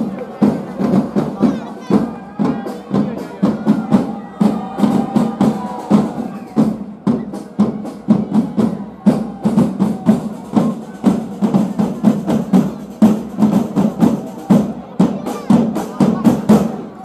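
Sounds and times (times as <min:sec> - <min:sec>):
drums beating brisk rhythm: 0:00.0 - 0:17.0.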